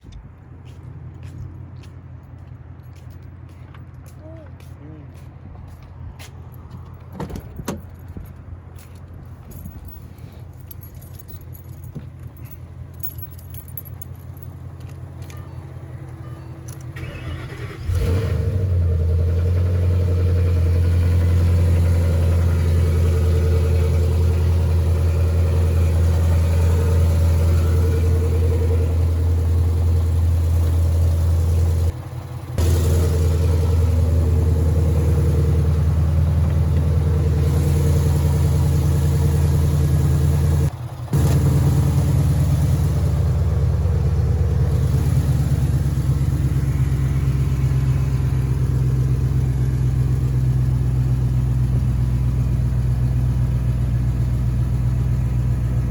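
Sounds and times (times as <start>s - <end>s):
car engine idling: 6.7s - 55.9s.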